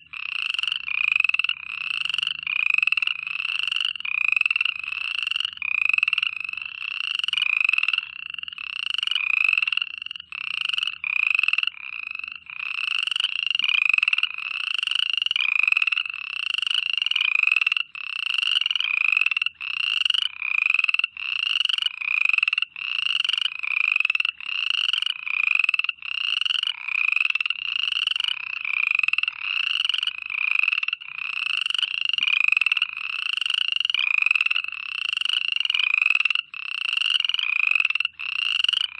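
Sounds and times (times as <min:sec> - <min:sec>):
frogs croaking: 0:00.0 - 0:38.9.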